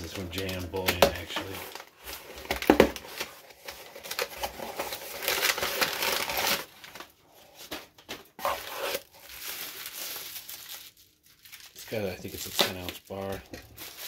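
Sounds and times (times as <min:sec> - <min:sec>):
packing paper crinkling: 0:00.0 - 0:14.0.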